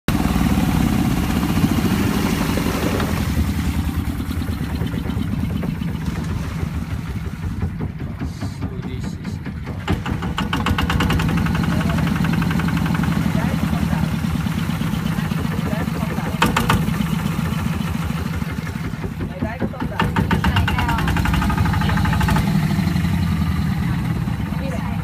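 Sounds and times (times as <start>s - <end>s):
boat engine droning: 0.1s - 25.0s.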